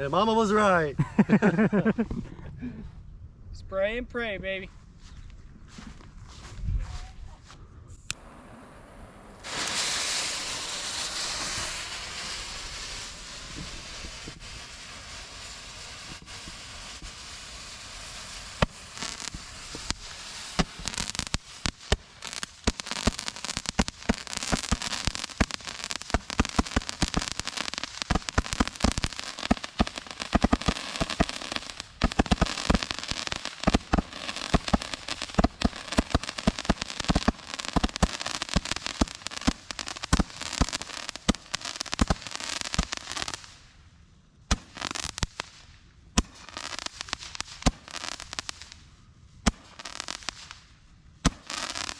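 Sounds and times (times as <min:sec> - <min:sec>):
firework hiss: 0:07.9 - 0:43.8, 0:44.5 - 0:51.9
firework crackling and popping: 0:07.9 - 0:51.9.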